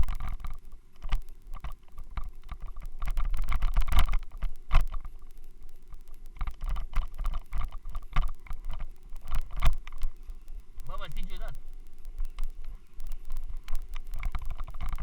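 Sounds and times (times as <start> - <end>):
camera knocking and rattling: 0.0 - 5.3, 6.3 - 10.2, 12.2 - 15.0
steady low rumble: 0.0 - 15.0.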